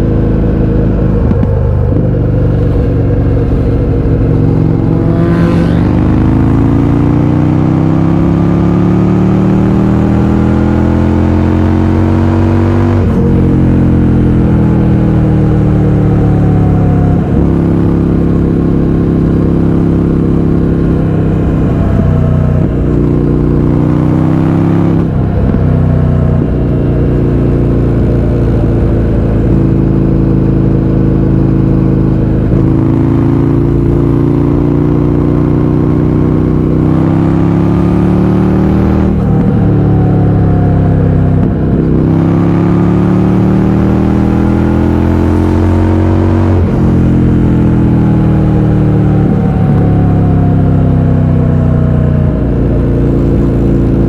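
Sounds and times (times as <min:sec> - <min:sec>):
motorcycle engine pulling hard: 0:00.0 - 0:54.0.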